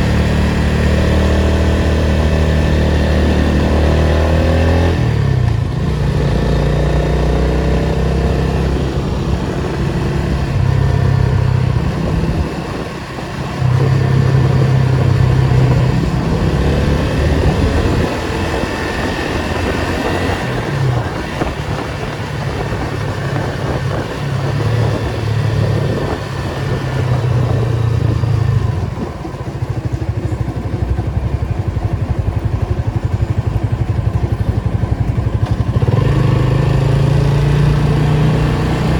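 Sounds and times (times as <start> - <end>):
car engine revving in traffic: 0.0 - 38.9.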